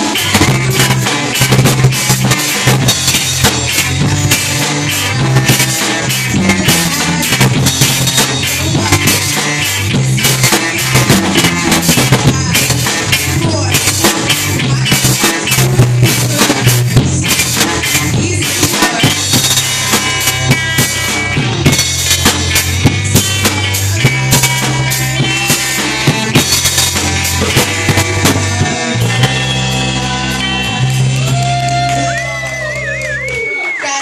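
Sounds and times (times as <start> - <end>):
drum kit hits: 0.0 - 33.1
ska band playing live: 0.0 - 34.0.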